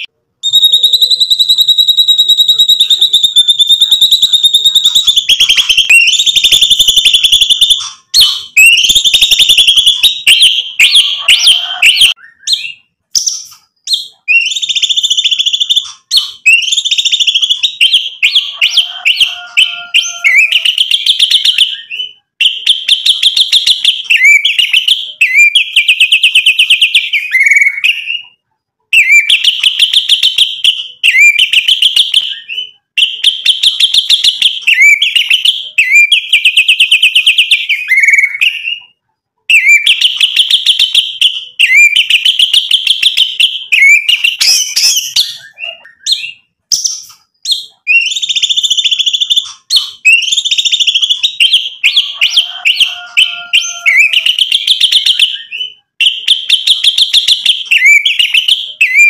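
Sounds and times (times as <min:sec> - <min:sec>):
bird singing trilled notes: 0:00.0 - 0:28.4, 0:29.0 - 0:59.0.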